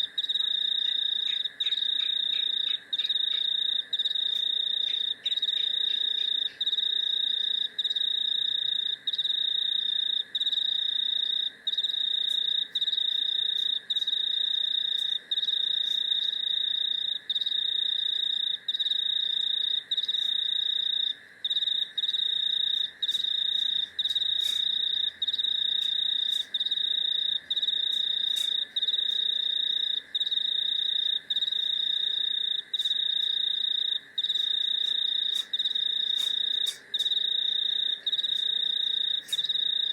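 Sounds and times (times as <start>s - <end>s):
high insect trill: 0.0s - 39.9s
low insect drone: 0.0s - 39.9s.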